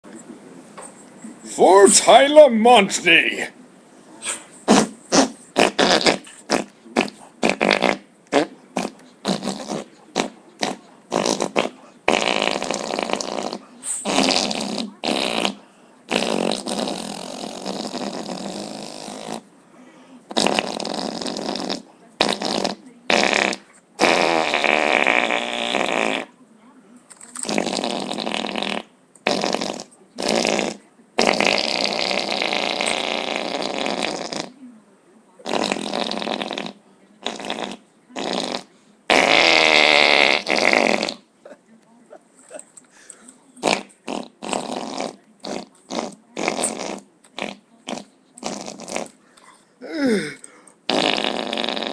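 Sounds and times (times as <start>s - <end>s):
fart-like sputtering: 4.6s - 19.5s, 20.3s - 26.3s, 27.3s - 34.5s, 35.4s - 41.3s, 43.6s - 49.2s, 49.9s - 51.9s.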